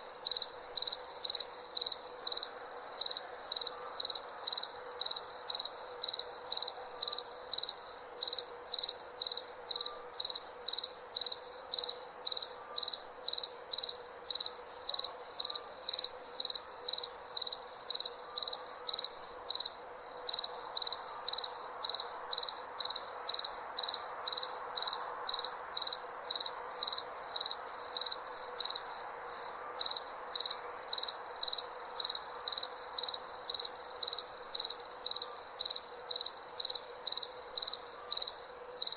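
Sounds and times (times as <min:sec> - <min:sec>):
cricket chirping: 0:00.0 - 0:38.9
faint background hiss: 0:00.0 - 0:38.9.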